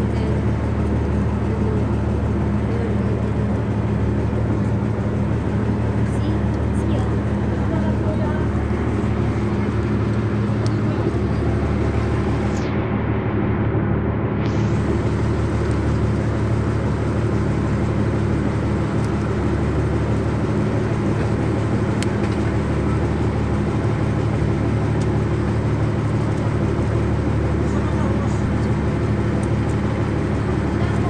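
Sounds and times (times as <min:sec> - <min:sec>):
boat engine humming: 0:00.0 - 0:31.0.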